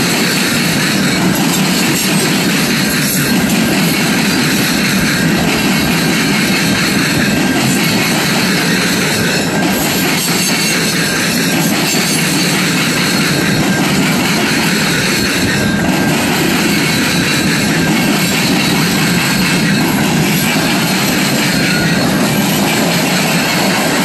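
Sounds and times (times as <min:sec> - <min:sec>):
steel wheels rumbling on rails: 0:00.0 - 0:24.0.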